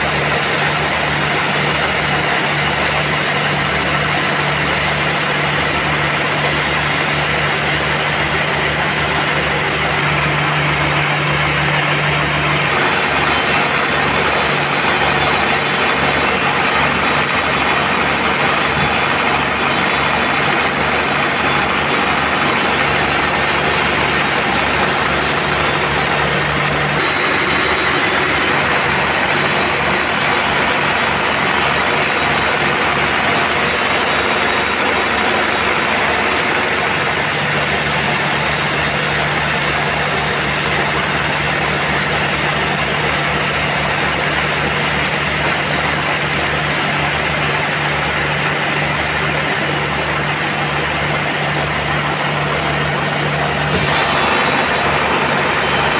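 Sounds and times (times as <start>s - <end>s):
band saw cutting log: 0.0s - 55.9s
mill motor drone: 0.0s - 55.9s.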